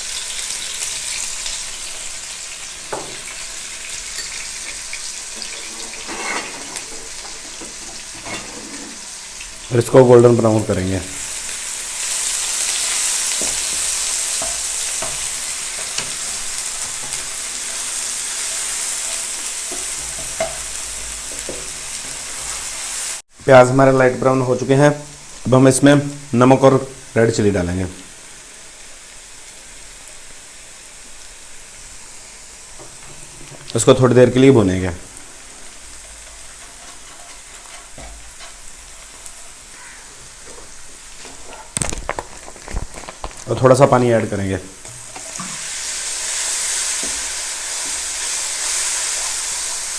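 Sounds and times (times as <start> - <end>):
onions sizzling in oil: 0.0 - 49.9.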